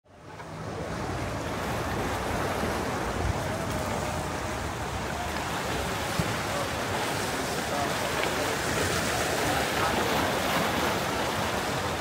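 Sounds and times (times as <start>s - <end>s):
outdoor seafront ambience: 0.0s - 12.0s.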